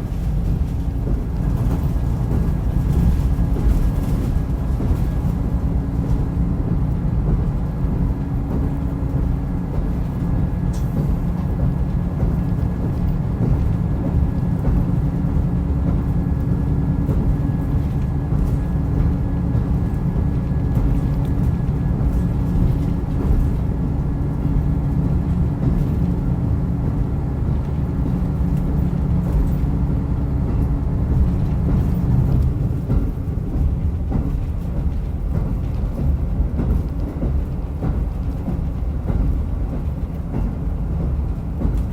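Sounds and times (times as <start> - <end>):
diesel railcar rumbling: 0.0 - 41.9.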